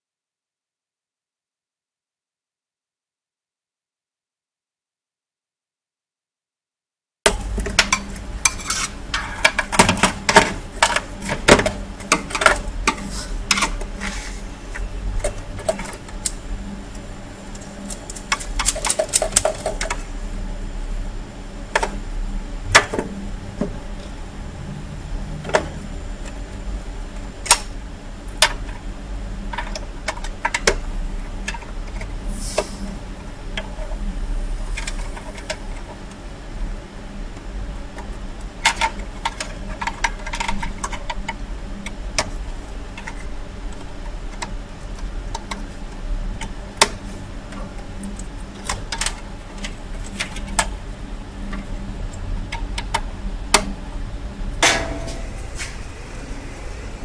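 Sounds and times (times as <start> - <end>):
steady low hum: 7.3 - 57.0.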